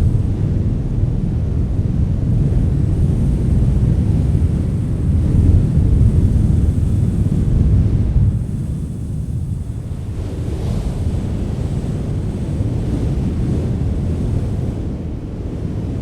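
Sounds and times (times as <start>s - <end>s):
wind rumbling: 0.0s - 16.0s.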